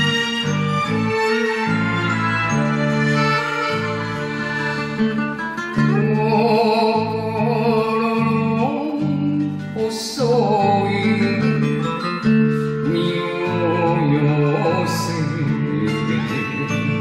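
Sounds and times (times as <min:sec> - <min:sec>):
karaoke backing track: 0:00.0 - 0:17.0
man singing with vibrato: 0:00.0 - 0:17.0.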